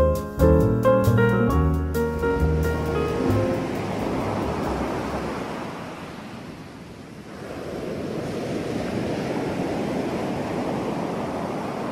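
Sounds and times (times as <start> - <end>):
ocean waves breaking: 2.1 - 11.9.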